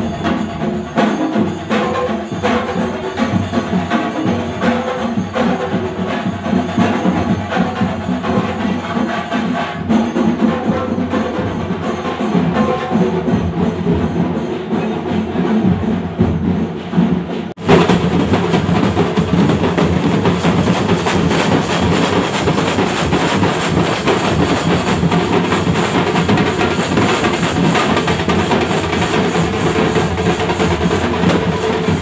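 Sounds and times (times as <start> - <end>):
drum troupe playing large drums: 0.0 - 32.0.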